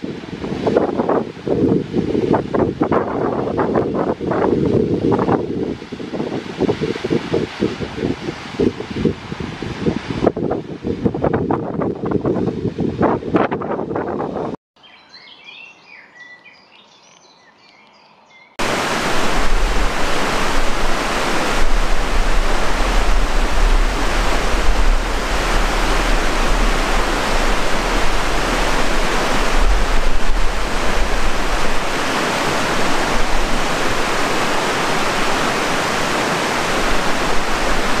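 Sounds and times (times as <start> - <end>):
water rushing with deep rumble: 0.0 - 13.3, 18.6 - 38.0.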